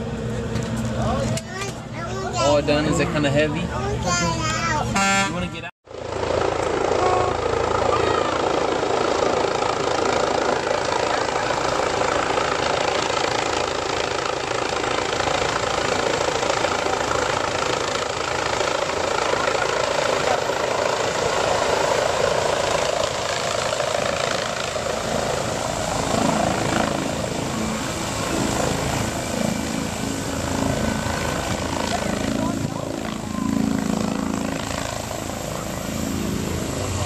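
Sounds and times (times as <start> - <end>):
helicopter rotor and turbine whir: 0.0 - 37.0.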